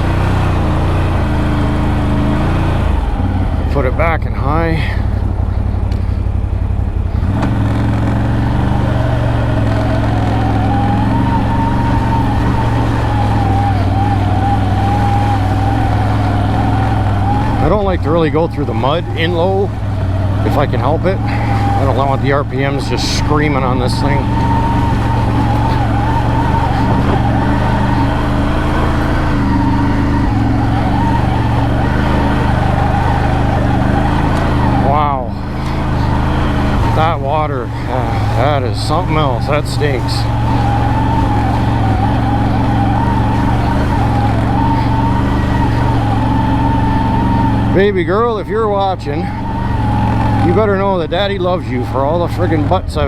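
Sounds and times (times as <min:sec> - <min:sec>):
atv engine running: 0:00.0 - 0:53.0
engine whine: 0:00.0 - 0:53.0.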